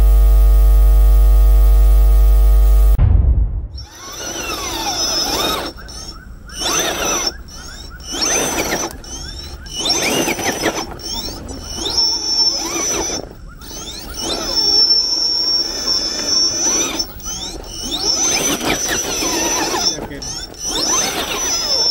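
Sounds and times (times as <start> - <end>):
steady high whine: 0.0 - 21.9
rc car motor whining: 3.8 - 21.9.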